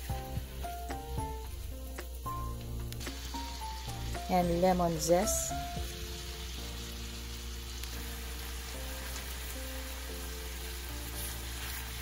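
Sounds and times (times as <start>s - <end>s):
background music with held chords: 0.0s - 12.0s
beans sizzling in a frying pan: 0.0s - 12.0s.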